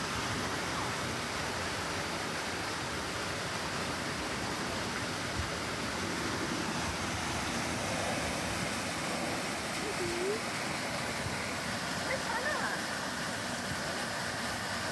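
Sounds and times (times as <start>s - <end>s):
waterfall pouring into pond: 0.0s - 14.9s.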